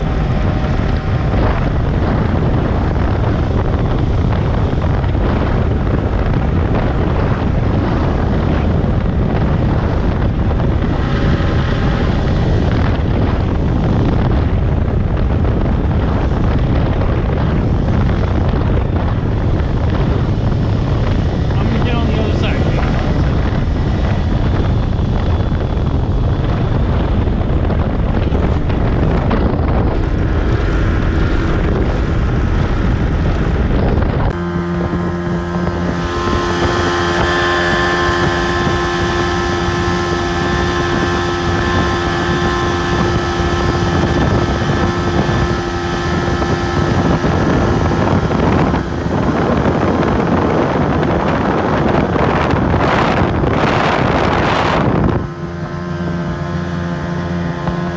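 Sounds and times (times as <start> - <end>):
boat engine drone: 0.0 - 57.9
wind buffeting on microphone: 0.0 - 57.9.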